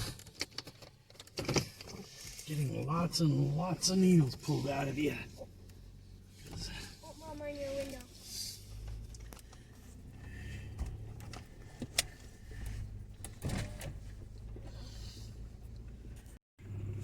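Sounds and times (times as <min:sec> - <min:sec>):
low hum of car cabin: 0:02.4 - 0:17.0.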